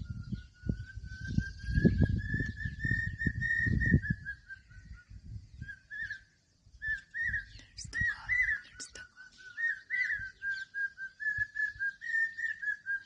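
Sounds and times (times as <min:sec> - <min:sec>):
bird whistled call: 0:00.0 - 0:13.0.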